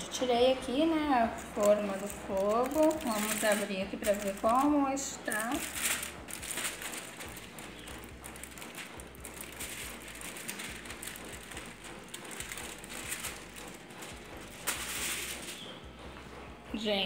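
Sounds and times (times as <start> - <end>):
aluminium foil crinkling: 1.2 - 15.6.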